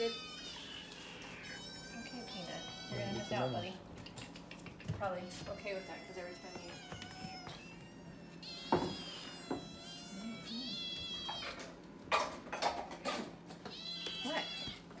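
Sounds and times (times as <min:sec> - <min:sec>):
kittens meowing: 0:00.0 - 0:11.8, 0:13.6 - 0:15.0.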